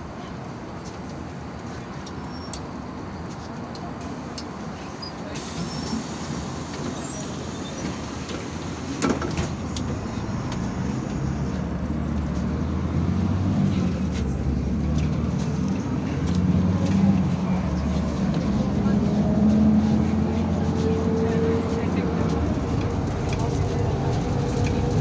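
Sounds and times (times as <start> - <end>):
road noise: 0.0 - 25.0
bus engine running: 2.8 - 25.0.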